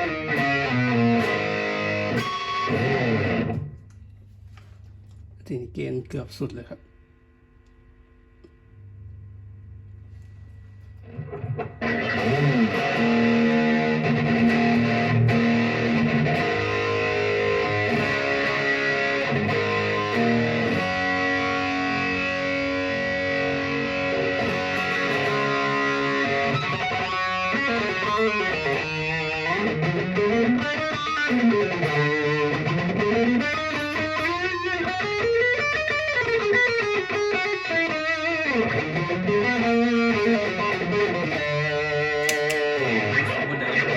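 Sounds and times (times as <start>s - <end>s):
distorted electric guitar: 0.0s - 4.1s, 10.1s - 43.9s.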